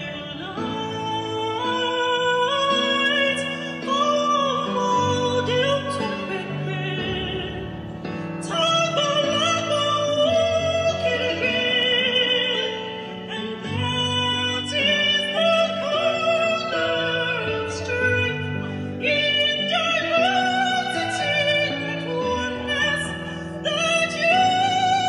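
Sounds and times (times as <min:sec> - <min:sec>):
woman singing operatically: 0:00.0 - 0:07.8, 0:08.4 - 0:25.0
sustained musical backing: 0:00.0 - 0:25.0.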